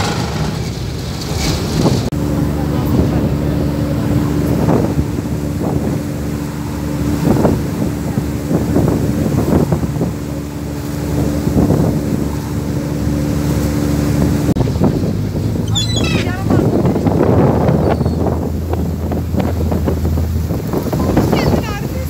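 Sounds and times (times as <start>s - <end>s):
ferry engine humming: 0.0s - 22.0s
wind buffeting microphone: 0.0s - 22.0s.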